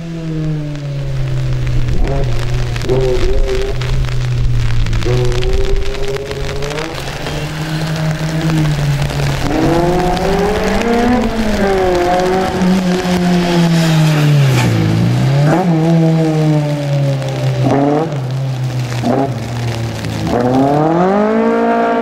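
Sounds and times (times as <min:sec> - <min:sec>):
racing car engine revving: 0:01.7 - 0:22.0.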